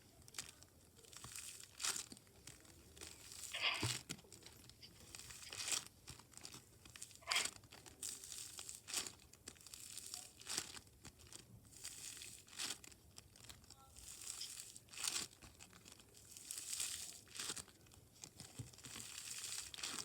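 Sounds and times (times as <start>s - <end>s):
slime squishing: 0.2s - 20.0s.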